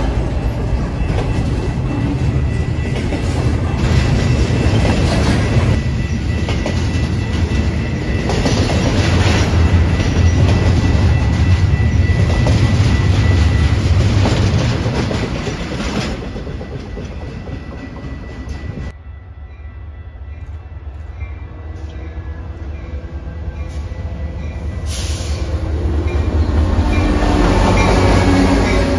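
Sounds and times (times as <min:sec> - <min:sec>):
freight train low rumble: 0:00.0 - 0:28.9.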